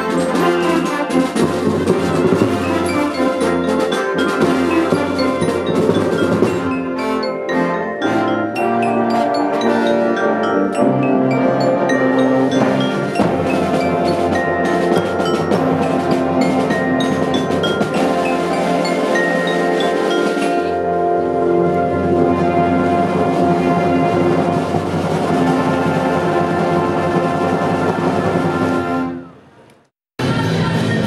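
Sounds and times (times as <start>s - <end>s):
mallet percussion notes: 0.0s - 28.4s
brass band playing: 0.0s - 29.4s.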